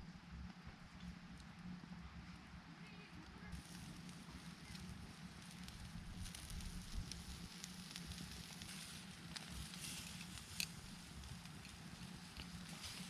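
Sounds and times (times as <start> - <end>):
steady low hum: 0.0 - 13.0
wood fire crackling and popping: 0.5 - 13.0.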